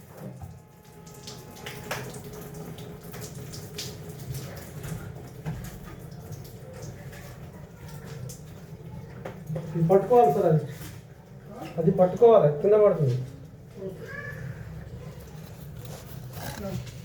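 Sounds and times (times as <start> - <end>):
water trickling and dripping: 0.0 - 17.0.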